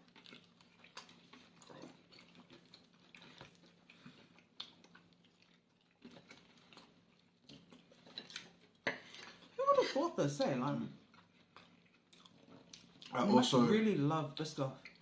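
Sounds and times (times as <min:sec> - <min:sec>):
faint chewing: 0:00.0 - 0:09.6, 0:10.6 - 0:13.6, 0:14.4 - 0:15.0.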